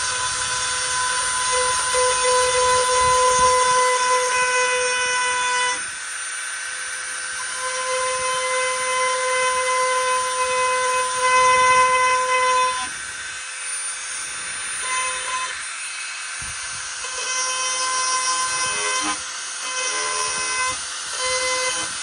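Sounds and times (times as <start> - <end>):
rotary tool grinding plastic: 0.0 - 22.0.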